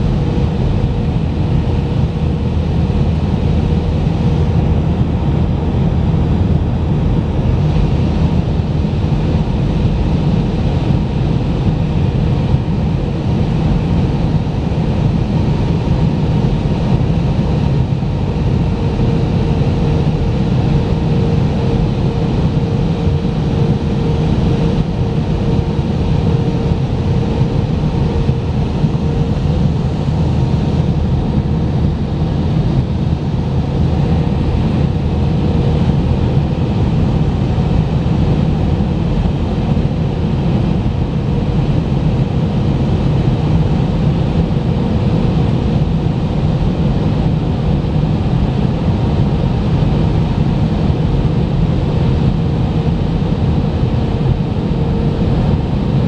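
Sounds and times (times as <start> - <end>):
airplane engine hum: 0.0 - 56.0
rushing airflow: 0.0 - 56.0.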